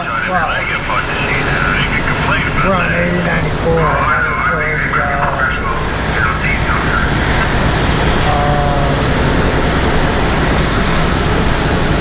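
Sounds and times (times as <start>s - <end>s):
road and tyre noise: 0.0s - 12.0s
truck engine drone: 0.0s - 12.0s.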